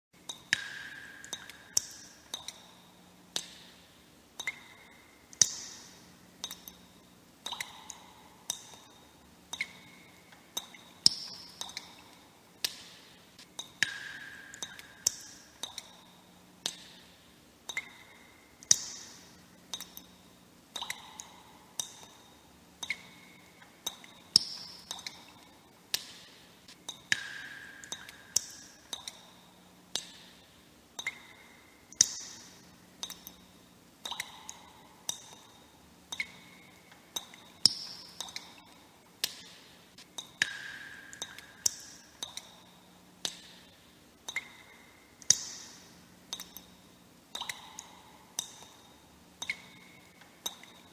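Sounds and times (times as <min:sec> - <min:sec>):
water droplets plinking: 0:00.3 - 0:02.8, 0:04.4 - 0:13.0, 0:13.6 - 0:17.1, 0:17.7 - 0:20.2, 0:20.8 - 0:26.3, 0:26.9 - 0:30.3, 0:31.0 - 0:39.6, 0:40.2 - 0:43.6, 0:44.2 - 0:46.7, 0:47.3 - 0:50.9.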